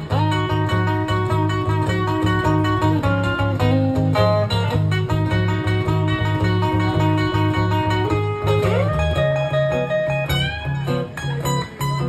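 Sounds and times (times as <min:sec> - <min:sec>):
electric guitar playing blues: 0:00.0 - 0:12.0.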